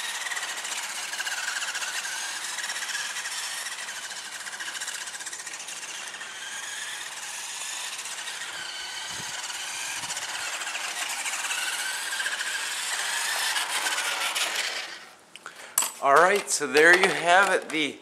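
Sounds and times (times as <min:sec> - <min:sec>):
toy truck motor whine: 0:00.0 - 0:15.5.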